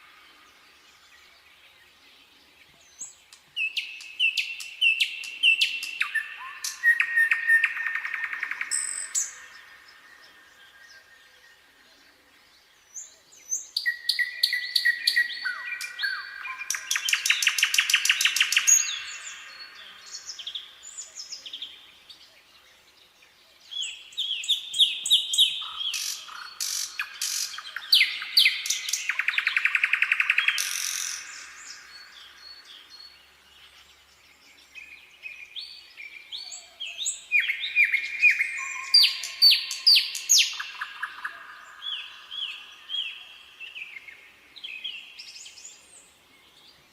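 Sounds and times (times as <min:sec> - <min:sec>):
nightingale singing: 0:00.0 - 0:46.9.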